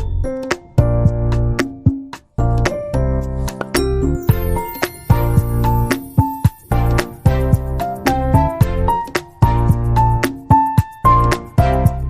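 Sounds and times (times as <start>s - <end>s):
bouncy tune with deep bass: 0.0s - 12.0s.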